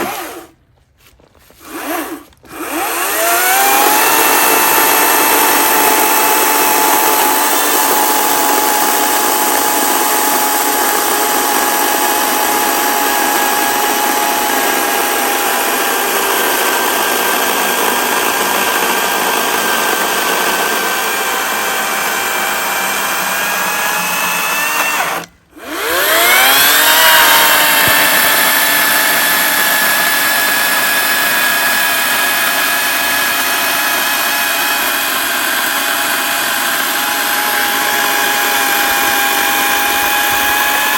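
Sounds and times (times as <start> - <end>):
battery chainsaw cutting log: 0.0 - 0.6, 1.5 - 40.9.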